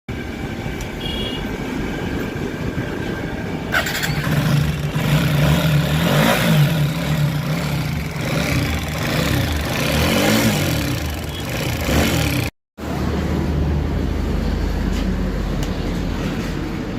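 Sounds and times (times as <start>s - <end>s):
motorcycle engine idling and revving: 0.1s - 16.9s.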